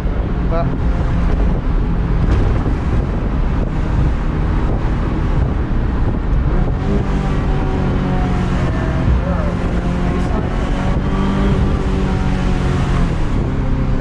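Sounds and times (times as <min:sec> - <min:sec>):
car engine running: 0:00.0 - 0:14.0
wind buffeting microphone: 0:00.0 - 0:14.0.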